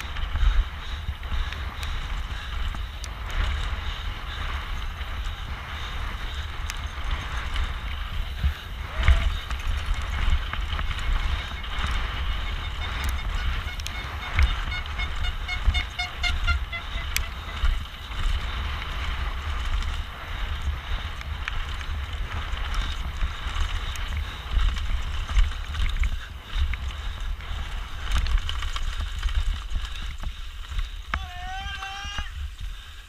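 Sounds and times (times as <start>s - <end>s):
bike rattling over ground: 0.0s - 33.0s
wind buffeting microphone: 0.0s - 33.0s.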